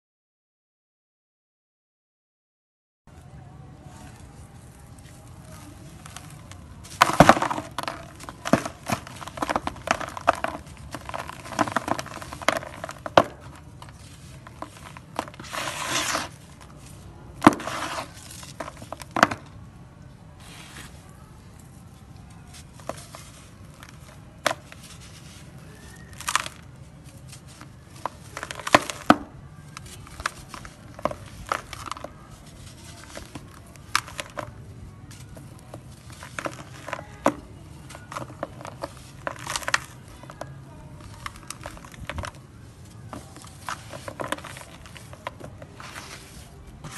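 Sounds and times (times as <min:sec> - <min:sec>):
sand-cement lumps crunching: 0:03.9 - 0:19.6, 0:20.4 - 0:46.9
sharp cracks of crumbling lumps: 0:05.0 - 0:19.6, 0:22.5 - 0:40.4, 0:41.0 - 0:46.9.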